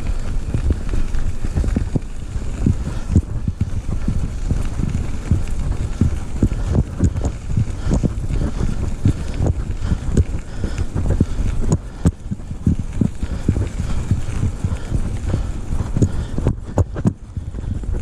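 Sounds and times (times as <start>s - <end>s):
steady low rumble: 0.0s - 18.0s
wind buffeting microphone: 0.0s - 18.0s.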